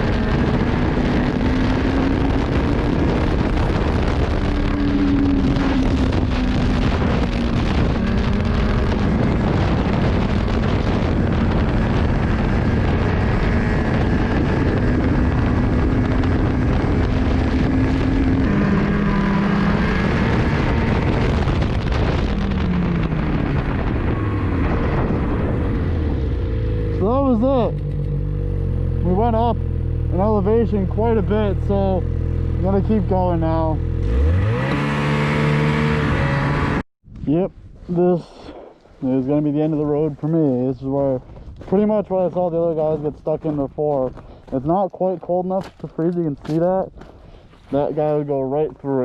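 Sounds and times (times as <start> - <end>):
snowmobile engine running: 0.0 - 49.0
wind buffeting microphone: 0.0 - 49.0.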